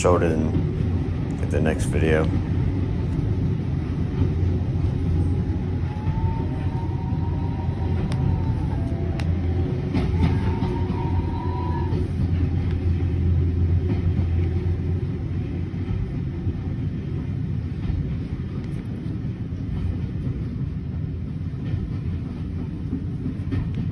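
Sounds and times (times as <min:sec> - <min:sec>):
railway carriage rumbling on track: 0:00.0 - 0:23.9.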